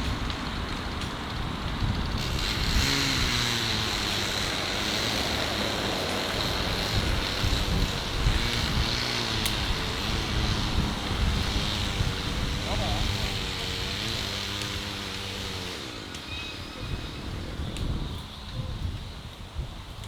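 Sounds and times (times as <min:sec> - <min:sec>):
tractor engine rumbling: 0:00.0 - 0:18.7.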